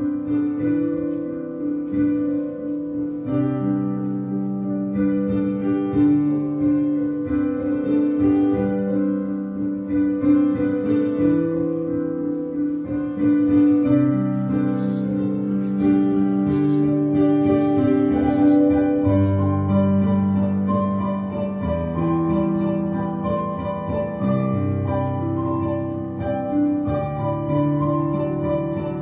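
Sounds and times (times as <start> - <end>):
slow piano-like keyboard chords: 0.0 - 29.0.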